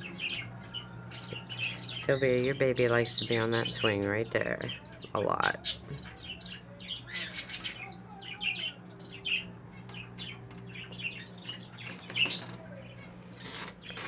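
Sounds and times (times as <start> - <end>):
budgerigars chirping and squawking: 0.0 - 14.0.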